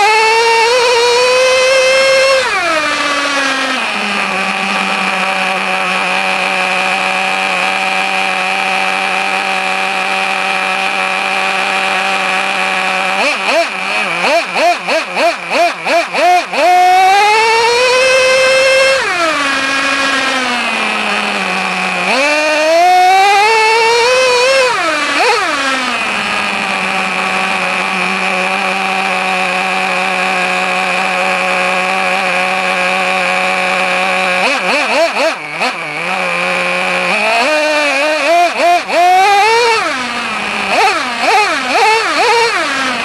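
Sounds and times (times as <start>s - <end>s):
small nitro engine revving: 0.0s - 43.0s.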